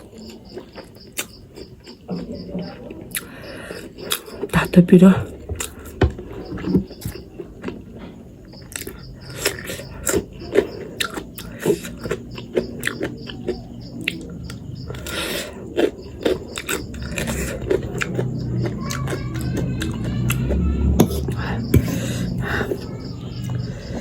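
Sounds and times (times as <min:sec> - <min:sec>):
person chewing noodles: 0:00.0 - 0:04.6, 0:05.2 - 0:24.0.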